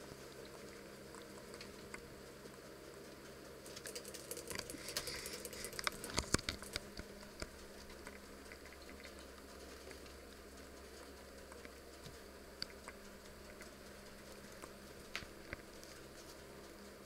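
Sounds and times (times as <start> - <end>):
low room hum: 0.0 - 17.0
rabbits scrabbling on pen floor: 0.0 - 17.0.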